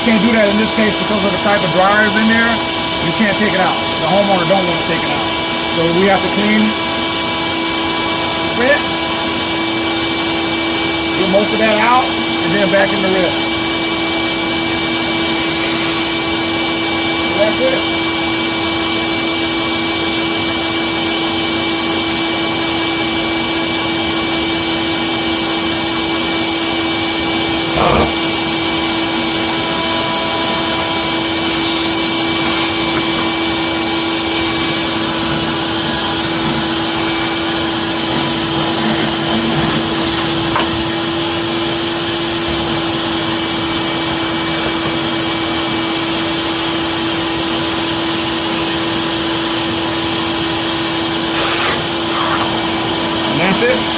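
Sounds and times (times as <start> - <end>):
vacuum humming: 0.0 - 53.9.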